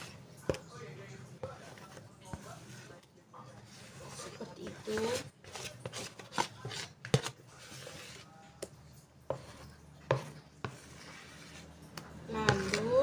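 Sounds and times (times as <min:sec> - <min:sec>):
spatula scraping batter from bowl: 0:00.0 - 0:13.0.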